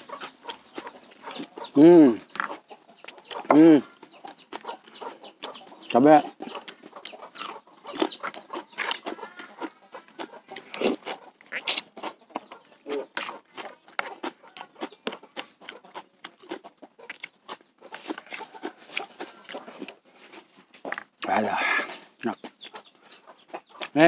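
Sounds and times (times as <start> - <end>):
chewing and lip-smacking: 0.0 - 24.0
chickens clucking: 0.0 - 24.0.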